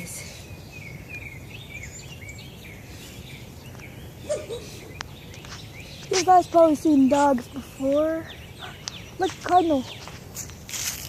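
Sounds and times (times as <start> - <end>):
low outdoor background noise: 0.0 - 11.0
songbird chirping: 0.0 - 11.0.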